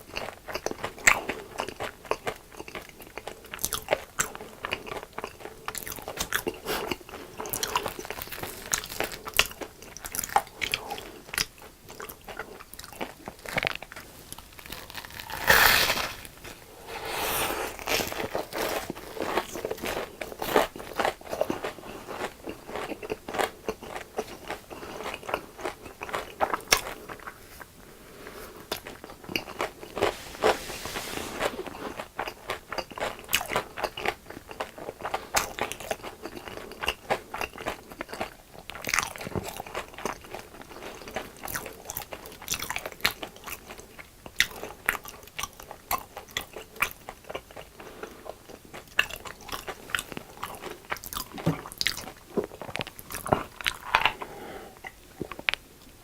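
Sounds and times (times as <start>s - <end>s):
crunching and chewing fried food: 0.0s - 16.7s, 17.8s - 30.2s, 31.6s - 56.0s.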